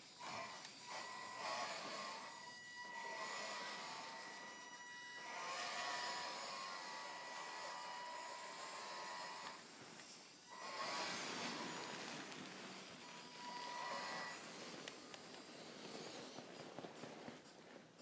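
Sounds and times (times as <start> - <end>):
electric motor whining: 0.1 - 16.0.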